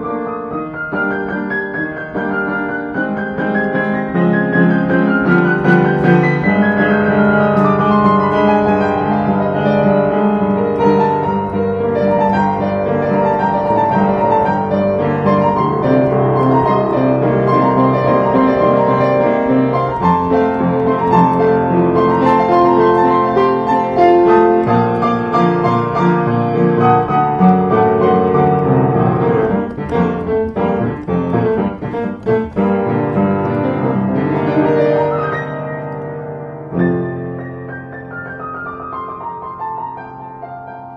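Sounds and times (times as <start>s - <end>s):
upright piano waltz: 0.0s - 40.9s.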